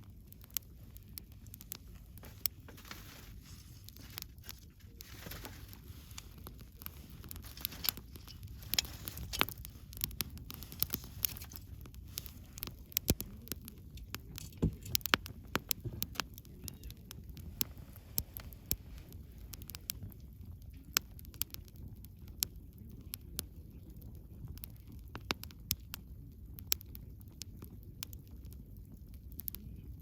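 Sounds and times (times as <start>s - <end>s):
low rumble of flames: 0.0s - 30.0s
wood fire popping and snapping: 0.0s - 30.0s.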